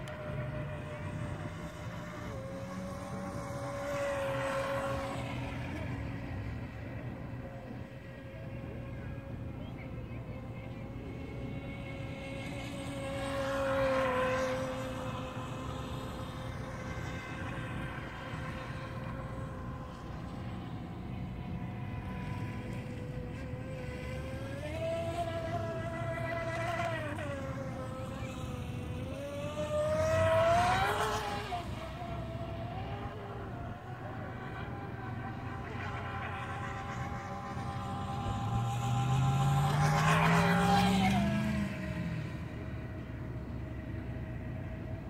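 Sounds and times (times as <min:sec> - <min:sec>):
electric motor whining: 0:00.0 - 0:43.6.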